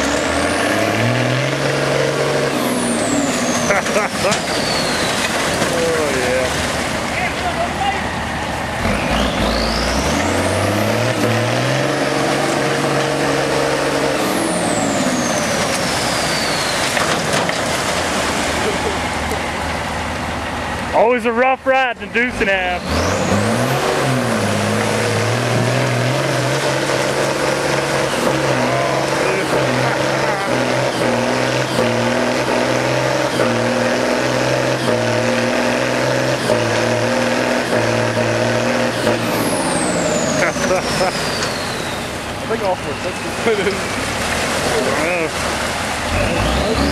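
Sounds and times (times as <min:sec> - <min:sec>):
diesel truck engine revving: 0:00.0 - 0:46.9.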